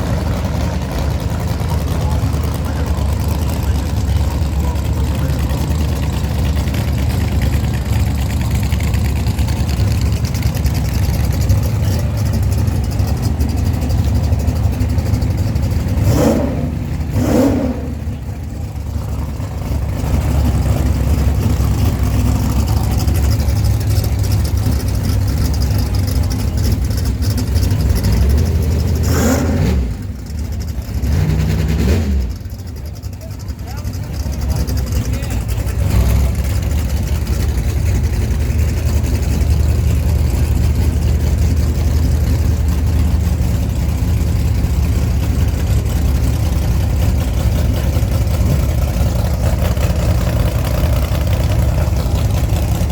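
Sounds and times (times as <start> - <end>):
truck engine under power: 0.0 - 52.9.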